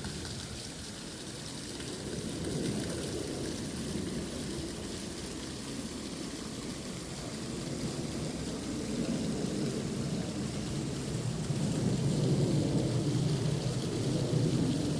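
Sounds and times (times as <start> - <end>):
stream rushing over rocks: 0.0 - 14.9.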